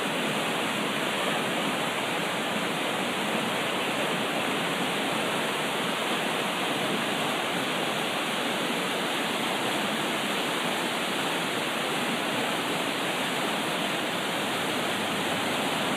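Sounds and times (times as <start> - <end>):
fast-moving water rushing: 0.0 - 15.9.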